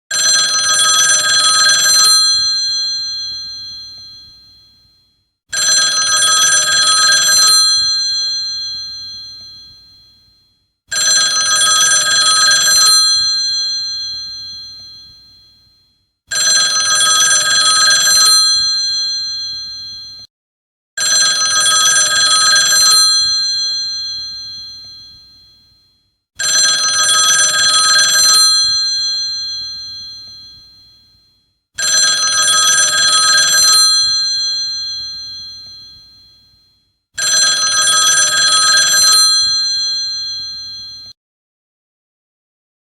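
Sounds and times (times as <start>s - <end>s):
old telephone bell ringing: 0.1s - 4.9s, 5.5s - 20.3s, 21.0s - 25.8s, 26.4s - 31.2s, 31.8s - 36.6s, 37.2s - 41.2s.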